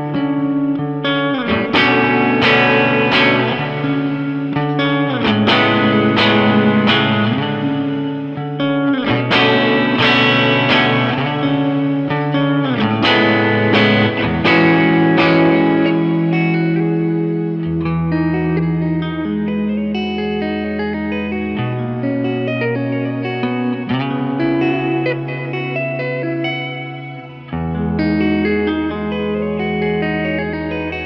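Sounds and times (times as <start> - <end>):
tapped electric guitar with reverb: 0.0 - 31.0.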